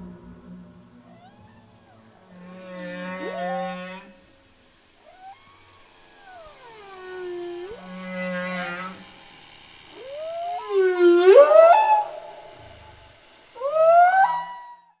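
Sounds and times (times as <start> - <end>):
whale song: 0.0 - 15.0.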